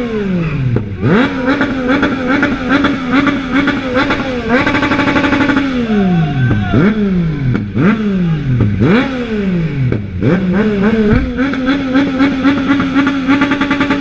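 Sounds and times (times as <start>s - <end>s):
motorbike engine revving: 0.0s - 14.0s.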